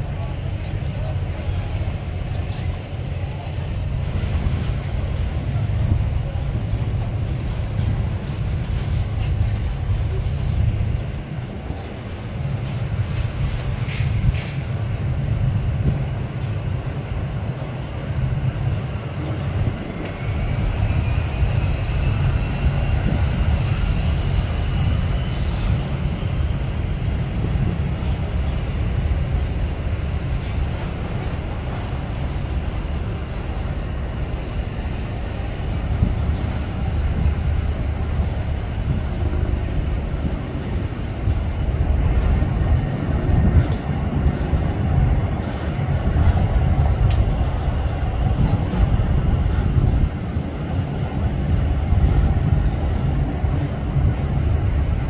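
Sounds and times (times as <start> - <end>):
boat engines rumbling: 0.0 - 55.0.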